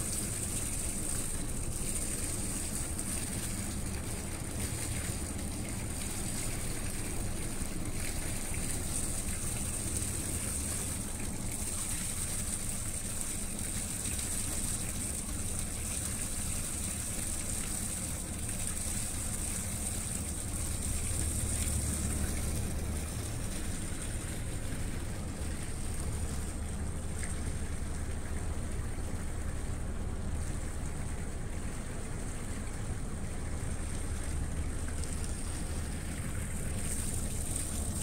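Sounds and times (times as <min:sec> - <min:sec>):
barge engines droning: 0:00.0 - 0:38.0.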